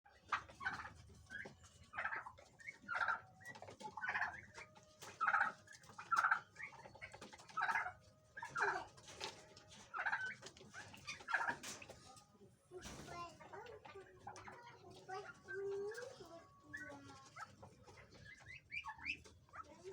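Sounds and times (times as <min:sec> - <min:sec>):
pheasants calling: 0:00.1 - 0:19.9.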